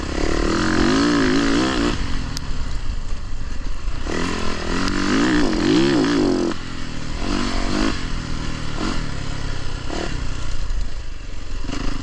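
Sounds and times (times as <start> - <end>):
dirt bike engine revving: 0.0 - 2.8, 3.8 - 12.0.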